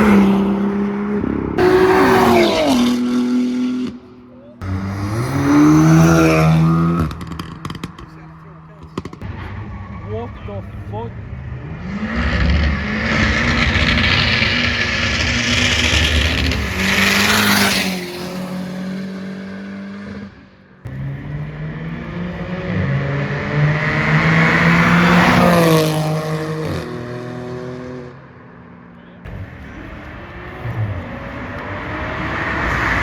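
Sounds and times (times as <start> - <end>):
car engines accelerating past: 0.0 - 28.5, 29.2 - 33.0.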